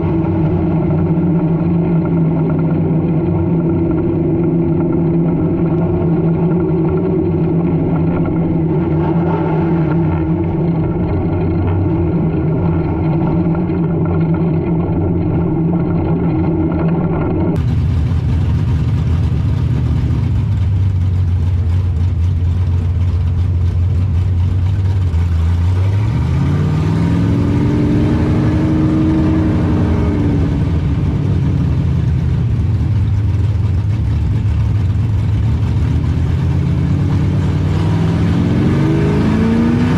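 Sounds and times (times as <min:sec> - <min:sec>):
race car engines running: 0:00.0 - 0:39.9.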